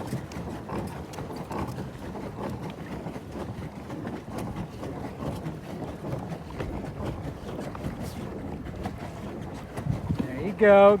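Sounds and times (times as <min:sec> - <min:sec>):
water splashes: 0:00.0 - 0:11.0
wind buffeting microphone: 0:00.0 - 0:11.0.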